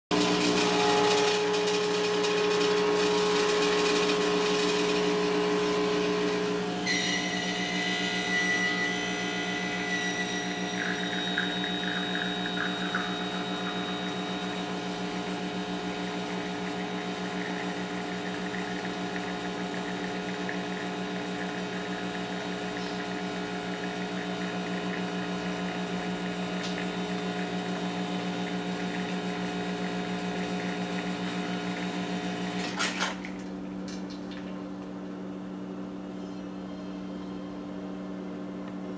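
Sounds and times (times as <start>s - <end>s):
espresso machine pump humming: 0.1s - 32.7s.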